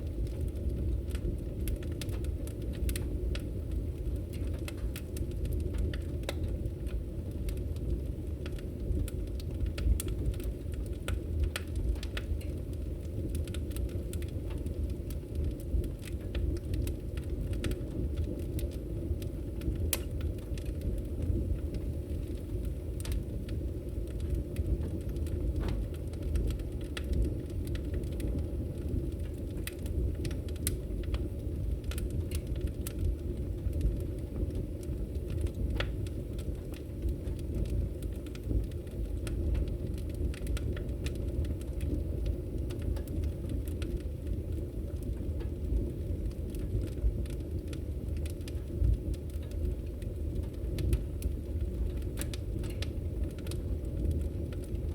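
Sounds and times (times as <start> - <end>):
fire popping and crackling: 0.0 - 54.9
fire rumbling: 0.0 - 54.9.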